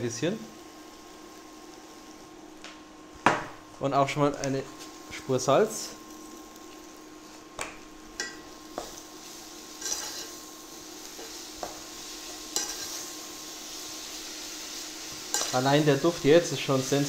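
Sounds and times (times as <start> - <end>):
vegetables sizzling in oil: 0.0 - 3.7, 4.3 - 17.0.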